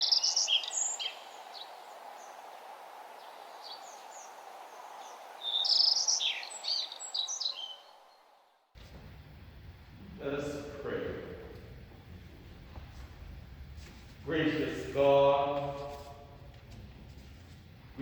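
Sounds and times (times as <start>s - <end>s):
songbirds chirping: 0.0s - 18.0s
steady background hum: 0.0s - 18.0s.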